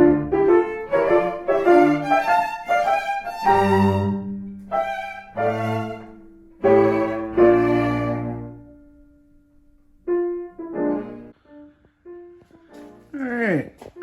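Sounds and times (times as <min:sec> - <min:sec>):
string and piano music: 0:00.0 - 0:13.5.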